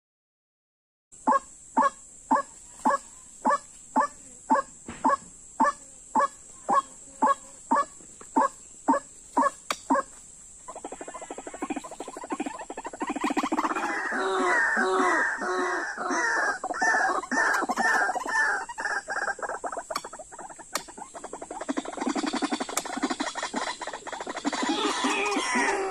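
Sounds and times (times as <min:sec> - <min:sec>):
fast rattling croaking calls: 0:01.2 - 0:25.9
waterhen calling: 0:01.3 - 0:25.9.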